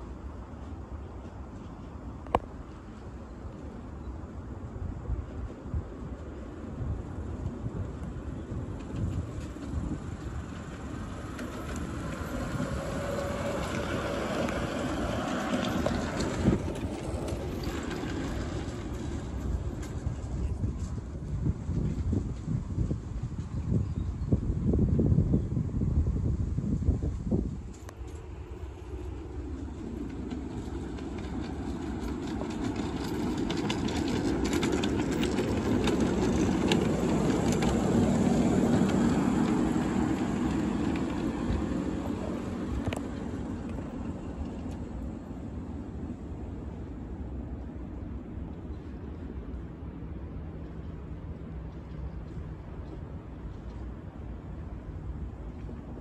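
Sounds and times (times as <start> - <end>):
wheels clicking over rail joints: 0.0 - 23.9, 27.7 - 56.0
faint locomotive whine: 0.0 - 56.0
train wheels rumbling on rail: 0.0 - 56.0
wind rumble on microphone: 0.0 - 56.0.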